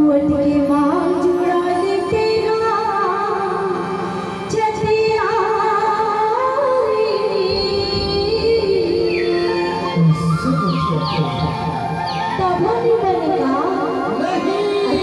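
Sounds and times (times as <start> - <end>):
instrumental accompaniment: 0.0 - 15.0
person singing through loudspeakers: 0.0 - 15.0.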